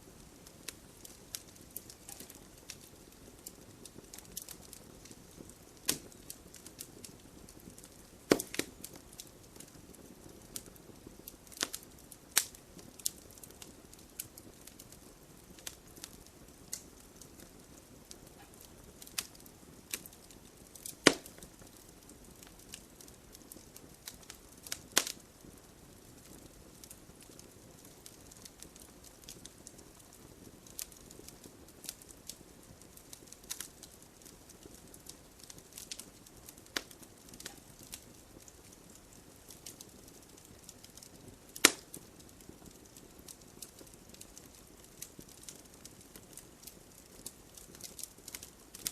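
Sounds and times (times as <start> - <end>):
log fire crackling and popping: 0.0 - 48.9
soft steady fire hiss: 0.0 - 48.9.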